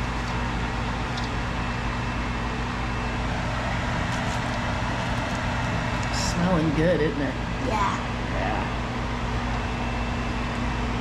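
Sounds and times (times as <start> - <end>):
mechanical hum and rushing: 0.0 - 11.0.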